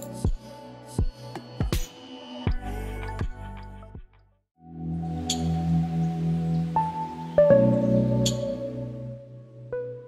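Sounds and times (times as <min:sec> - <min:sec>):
ambient music with low tones: 0:00.0 - 0:10.0
background music: 0:00.0 - 0:10.0.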